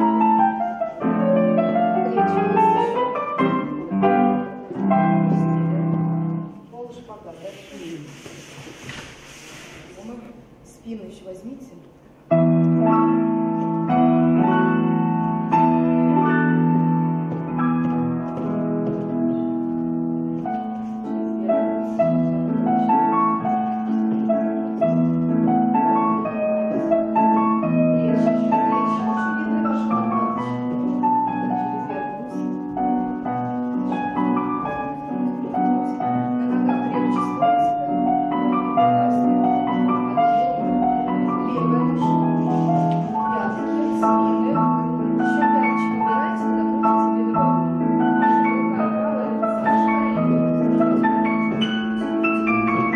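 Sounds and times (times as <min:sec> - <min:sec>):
piano music: 0:00.0 - 0:52.9.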